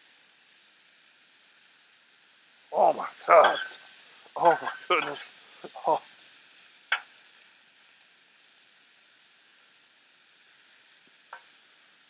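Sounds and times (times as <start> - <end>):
chicken sizzling on griddle: 0.0 - 12.0.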